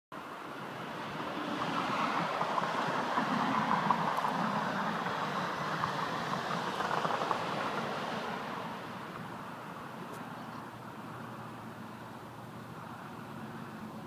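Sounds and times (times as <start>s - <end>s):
distant vehicle rumble: 0.2s - 14.0s.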